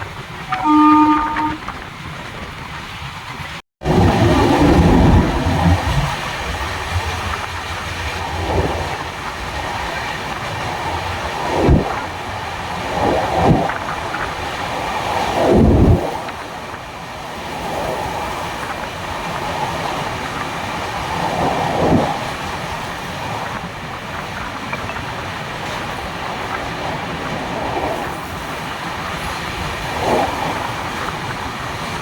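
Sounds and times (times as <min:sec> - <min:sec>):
train rumbling on rails: 0:00.0 - 0:32.0
train thuds and clunks: 0:00.0 - 0:32.0.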